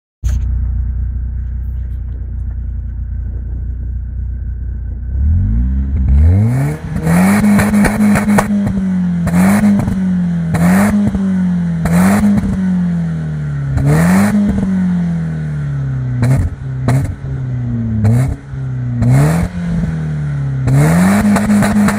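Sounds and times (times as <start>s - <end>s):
car engine idling and revving: 0.2s - 21.9s.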